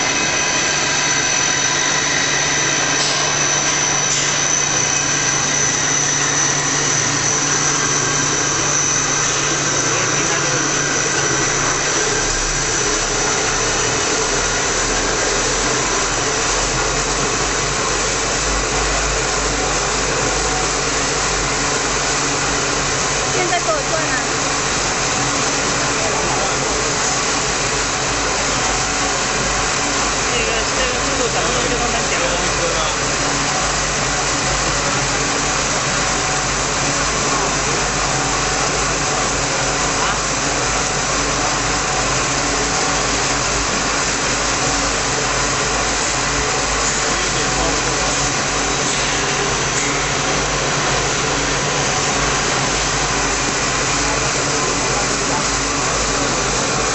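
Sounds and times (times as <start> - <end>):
agitator motor drone: 0.0 - 56.9
machine hum: 0.0 - 56.9
paddle churning foaming liquid: 0.0 - 56.9.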